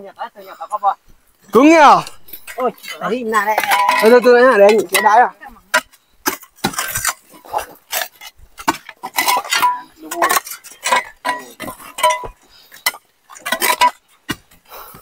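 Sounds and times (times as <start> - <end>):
metal tools striking concrete: 2.2 - 14.4.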